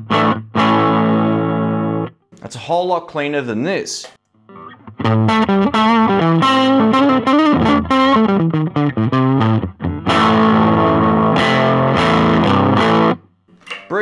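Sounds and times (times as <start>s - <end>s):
overdriven electric guitar: 0.0s - 2.2s, 4.3s - 14.0s.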